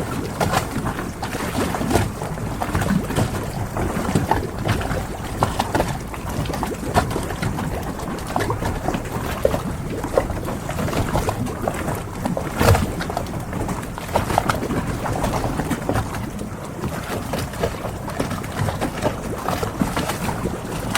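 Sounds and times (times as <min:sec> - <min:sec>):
water lapping and sloshing: 0:00.0 - 0:20.9.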